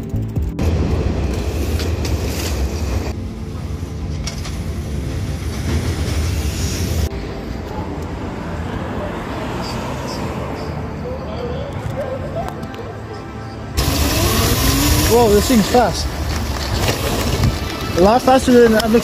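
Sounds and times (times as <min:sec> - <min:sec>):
electric scooter riding: 0:00.0 - 0:19.0.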